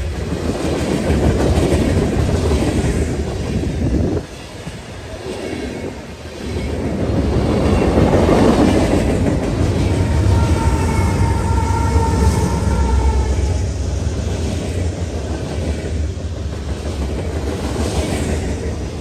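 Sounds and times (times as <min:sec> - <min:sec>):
diesel locomotive whine: 0:00.0 - 0:19.0
freight train rolling past: 0:00.0 - 0:19.0.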